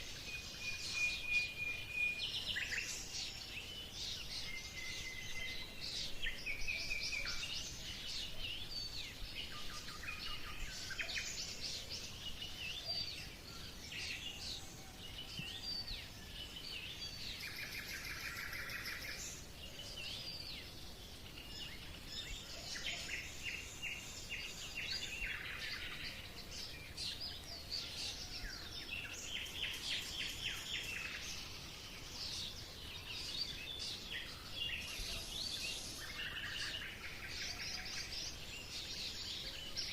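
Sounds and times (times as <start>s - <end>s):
birds chirping and trilling: 0.0s - 39.9s
faint steady hiss: 0.0s - 39.9s.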